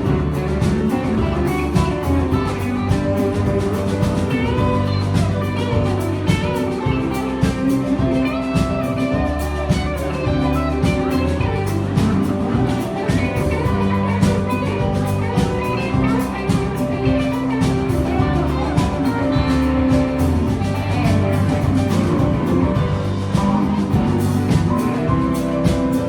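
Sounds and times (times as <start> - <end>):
bass guitar: 0.0 - 26.0
drum kit: 0.0 - 26.0
guitar: 0.0 - 26.0.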